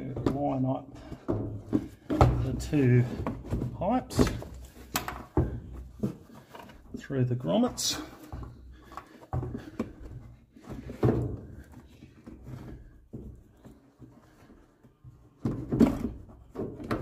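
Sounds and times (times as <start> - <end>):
plastic scraping and knocking: 0.0 - 17.0.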